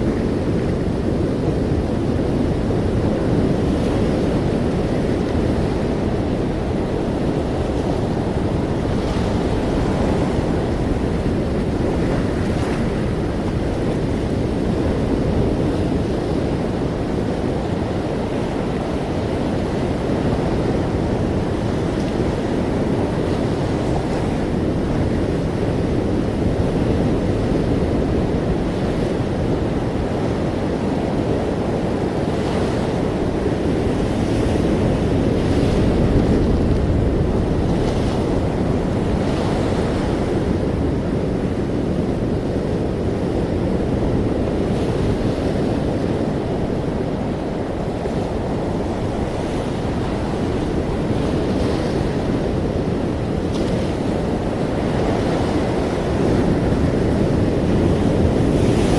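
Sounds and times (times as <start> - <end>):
ocean waves breaking on shore: 0.0 - 58.9.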